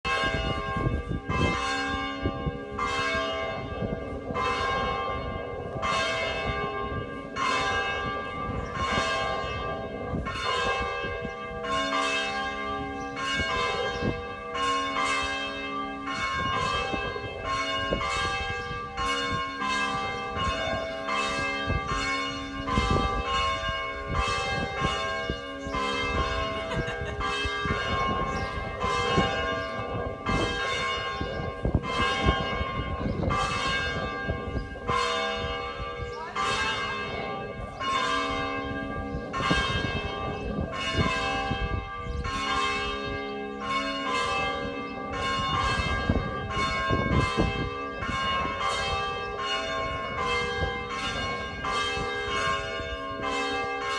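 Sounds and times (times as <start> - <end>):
church bells pealing: 0.0 - 53.9.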